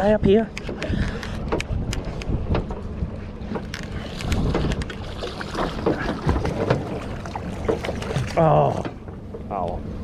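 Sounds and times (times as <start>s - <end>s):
wind buffeting microphone: 0.0s - 9.1s
low rumble of boat engine: 0.0s - 10.0s.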